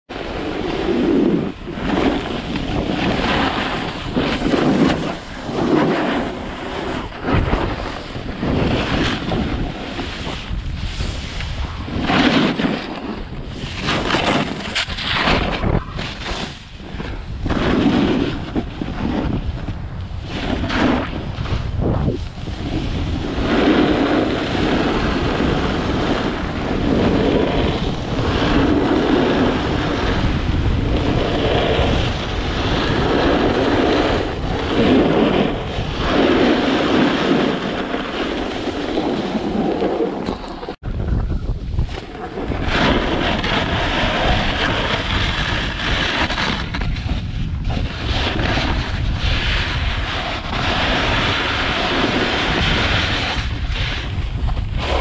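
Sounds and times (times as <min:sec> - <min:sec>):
snowboard scraping on snow: 0:00.1 - 0:55.0
wind buffeting microphone: 0:00.1 - 0:55.0.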